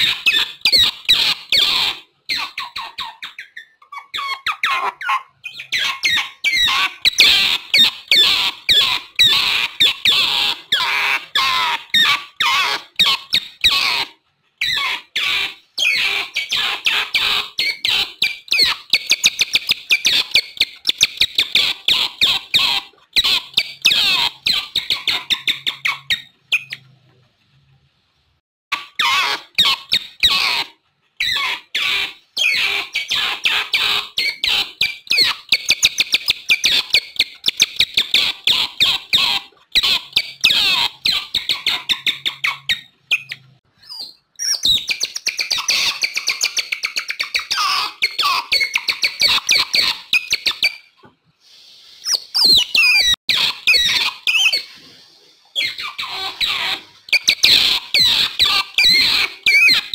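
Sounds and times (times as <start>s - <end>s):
otters chirping and squeaking: 0.0s - 27.2s, 28.7s - 51.1s, 51.9s - 59.9s.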